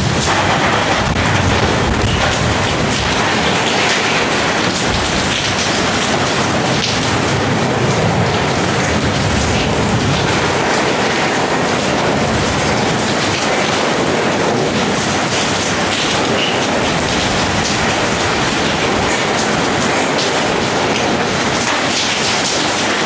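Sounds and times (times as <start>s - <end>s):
heavy rain on a metal roof: 0.0s - 23.0s
water pouring off roof edge: 0.0s - 23.0s.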